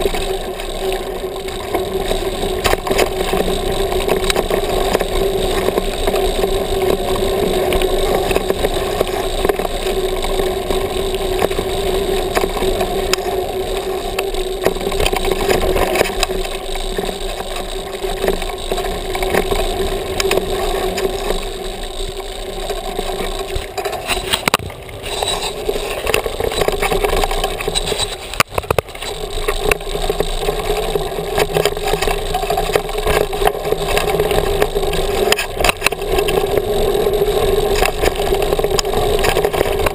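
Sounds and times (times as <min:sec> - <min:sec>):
bike rattles and clicks: 0:00.0 - 0:39.9
tyre and wind noise: 0:00.0 - 0:39.9.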